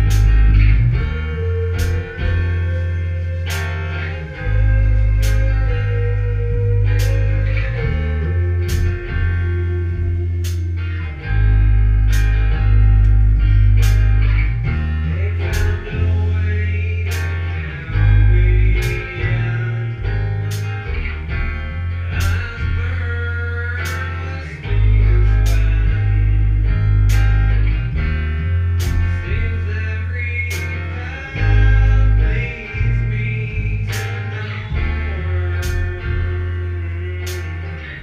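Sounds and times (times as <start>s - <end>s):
person singing: 0.0s - 38.0s
rock band playing: 0.0s - 38.0s.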